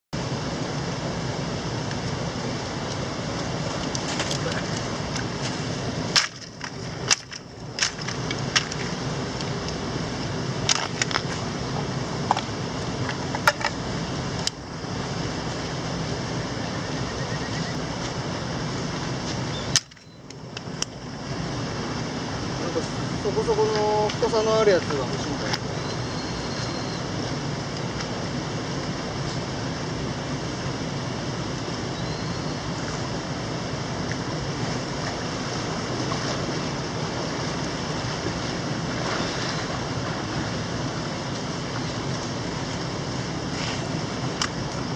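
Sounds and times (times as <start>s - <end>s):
mountain stream rushing: 0.2s - 44.9s.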